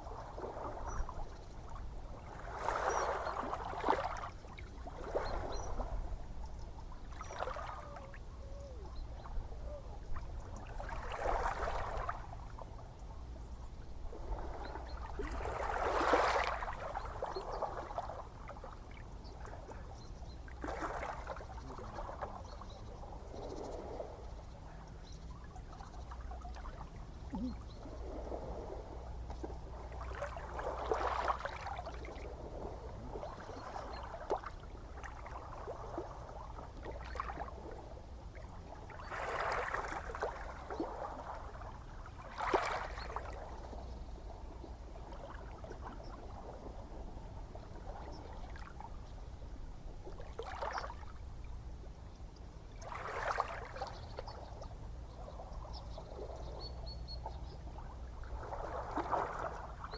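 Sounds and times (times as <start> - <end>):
waves lapping at shore: 0.0 - 8.3, 10.0 - 12.9, 14.1 - 59.9
low rumble of sea: 0.0 - 59.9.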